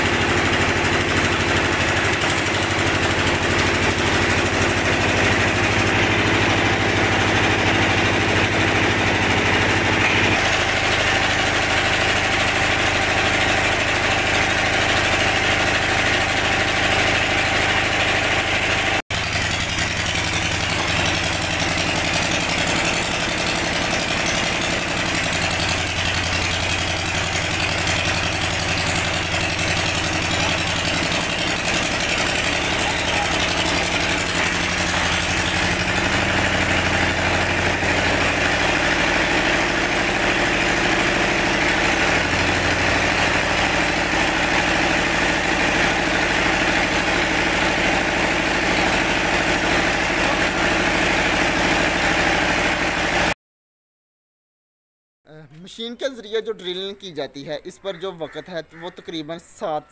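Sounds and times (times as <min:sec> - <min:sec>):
drilling rig engine running: 0:00.0 - 0:53.3.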